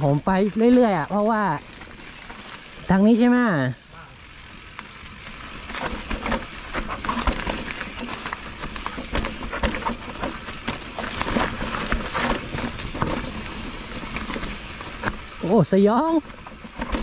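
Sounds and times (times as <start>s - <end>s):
bike knocking and rattling: 0.0s - 17.0s
bike tyres hissing on mud: 0.0s - 17.0s.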